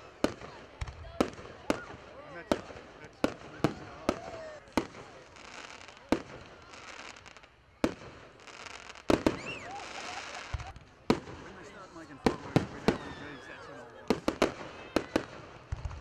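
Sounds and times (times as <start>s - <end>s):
firework bangs: 0.0s - 16.0s
firework crackling: 0.0s - 16.0s.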